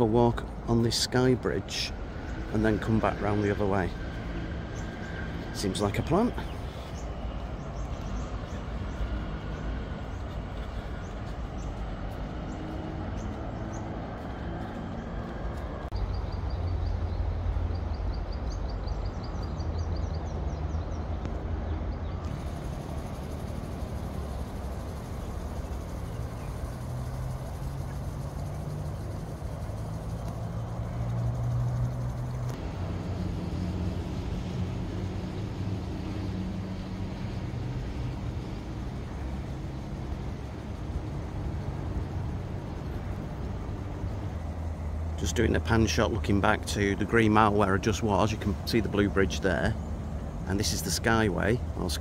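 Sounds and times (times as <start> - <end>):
distant traffic rumble: 0.0 - 52.0.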